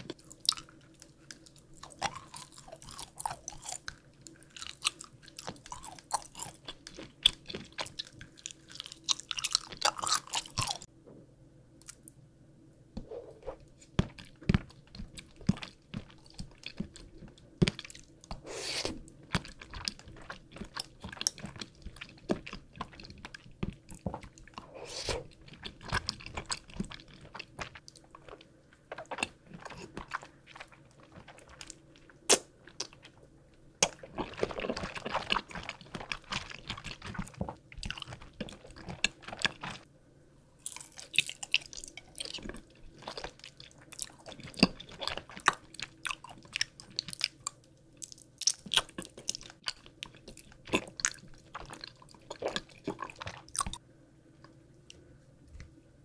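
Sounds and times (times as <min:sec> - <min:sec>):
person chewing crunchy candy: 0:00.0 - 0:10.9, 0:13.0 - 0:39.9, 0:40.6 - 0:53.8.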